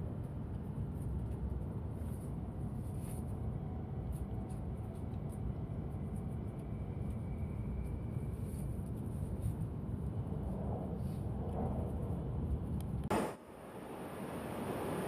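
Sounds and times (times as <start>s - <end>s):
faint thin whine: 0.0s - 15.0s.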